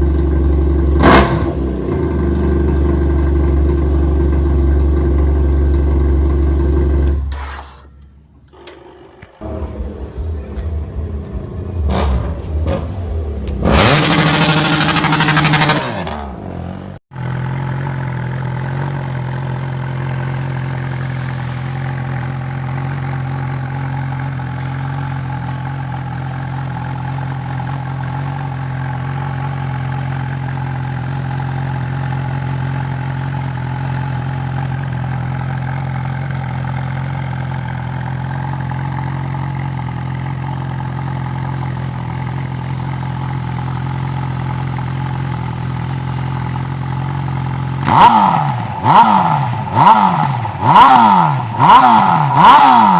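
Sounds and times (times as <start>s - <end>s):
motorcycle engine idling: 0.0s - 11.9s, 17.1s - 52.6s.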